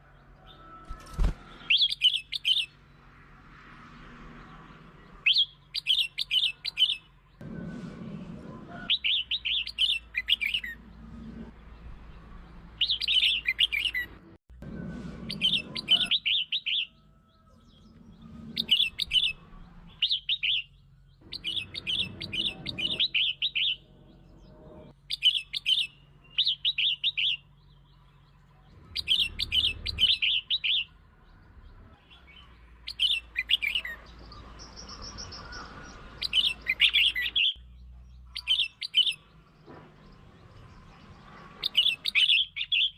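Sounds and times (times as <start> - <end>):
bird singing warbled phrases: 0.1 - 3.1, 4.6 - 7.4, 8.9 - 11.1, 11.7 - 14.2, 15.3 - 42.9.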